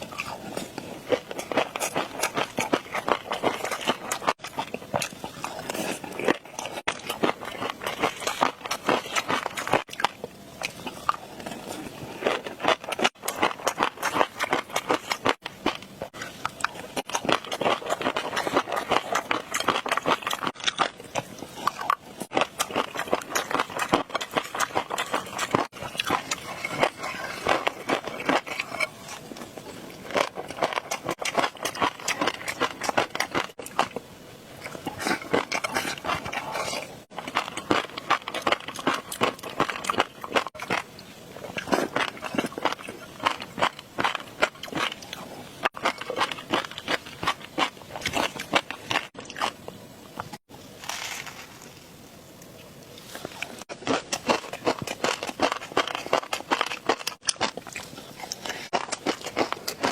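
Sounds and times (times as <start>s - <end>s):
crackling popping and chewing: 0.0s - 59.9s.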